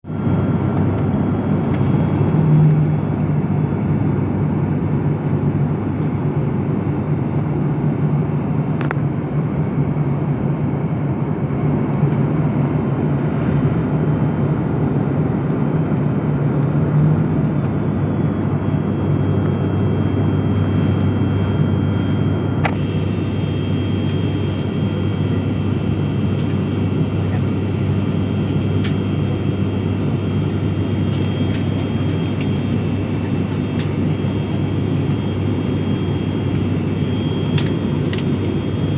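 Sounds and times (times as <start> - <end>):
airliner engines droning in cabin: 0.1 - 38.9.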